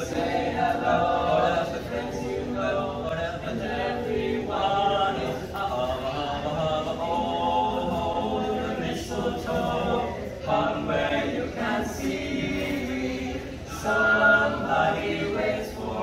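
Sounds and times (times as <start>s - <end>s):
boys singing a cappella: 0.0s - 16.0s.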